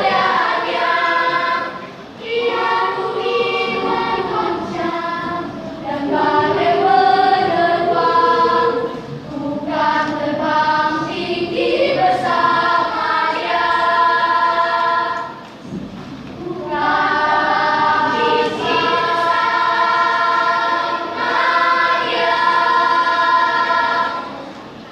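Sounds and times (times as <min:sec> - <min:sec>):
children's choir singing: 0:00.0 - 0:24.9.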